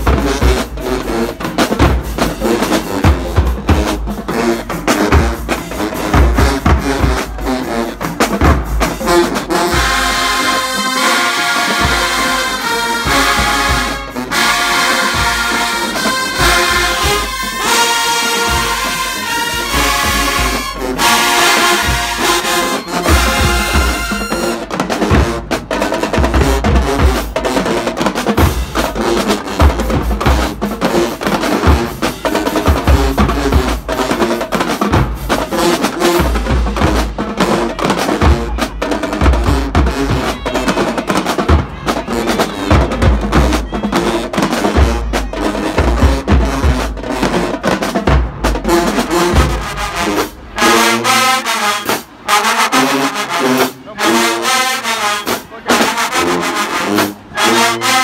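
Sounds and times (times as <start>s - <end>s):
brass section playing: 0.0s - 58.0s
snare and bass drums: 0.0s - 58.0s.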